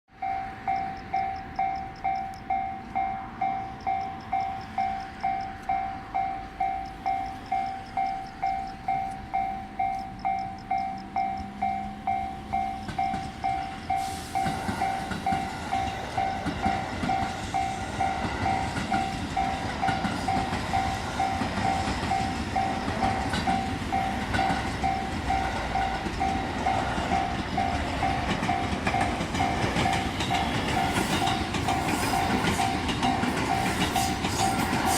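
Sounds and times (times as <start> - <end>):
level crossing bell ringing: 0.1 - 31.5
train passing with wheel clatter: 0.1 - 34.9.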